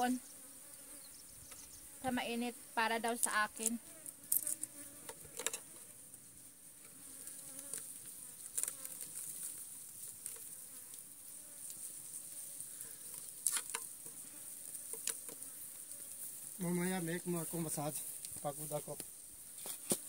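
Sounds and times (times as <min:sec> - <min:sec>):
insects chorus: 0:00.0 - 0:06.1, 0:06.7 - 0:20.0.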